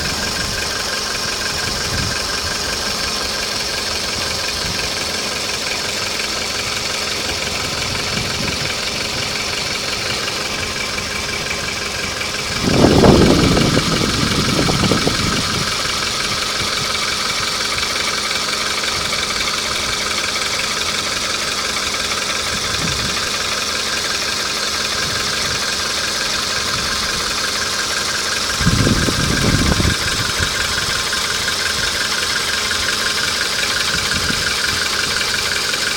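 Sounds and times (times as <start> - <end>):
car engine idling: 0.0 - 35.9
engine knocking: 0.0 - 35.9
engine low surges: 0.0 - 35.9.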